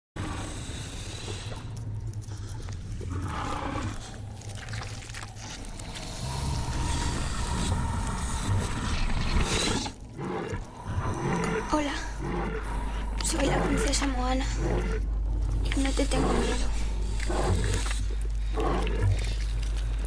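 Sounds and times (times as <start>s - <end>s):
low rumbling creature growls: 0.2s - 20.0s.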